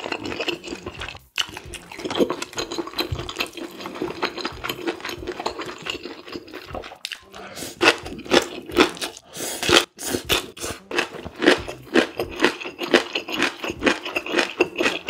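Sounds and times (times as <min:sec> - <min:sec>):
wet chewing: 0:00.0 - 0:15.0.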